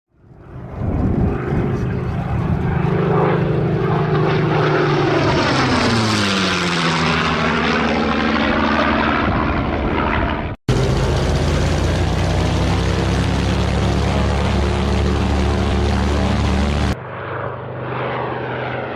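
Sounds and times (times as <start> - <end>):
propeller aircraft flying past: 0.1 - 18.9
steady engine drone: 0.2 - 18.9.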